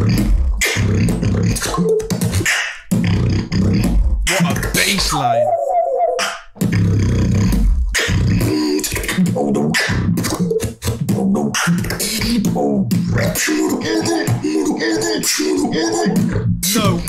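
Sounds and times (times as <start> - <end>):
beatbox performance: 0.0 - 17.0.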